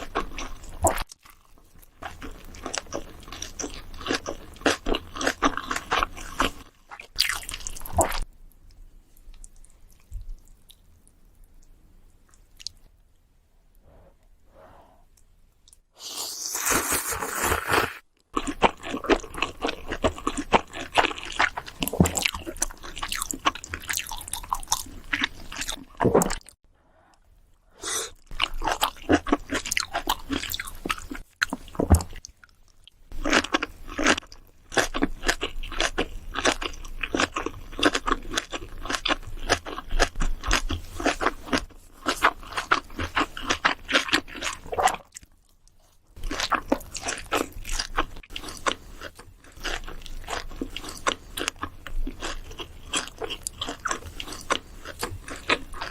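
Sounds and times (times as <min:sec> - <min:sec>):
wet chewing and crunching: 0:00.0 - 0:12.9, 0:16.4 - 0:26.6, 0:28.2 - 0:55.9.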